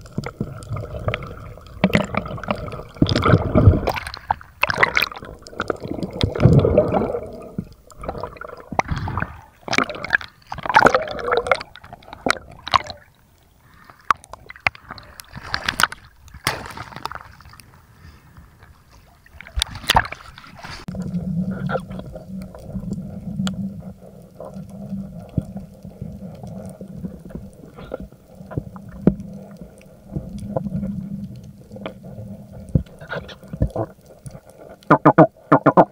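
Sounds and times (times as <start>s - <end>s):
water gurgling and sloshing: 0.0s - 35.9s.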